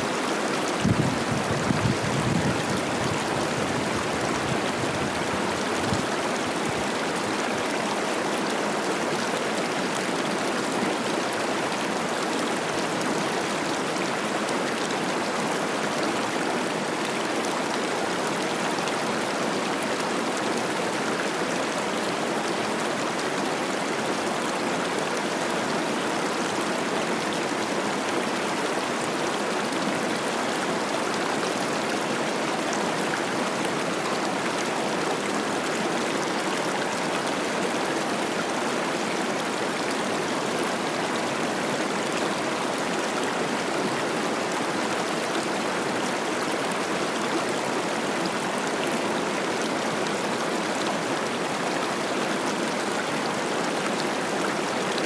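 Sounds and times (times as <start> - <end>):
river water rushing and splashing: 0.0 - 55.0.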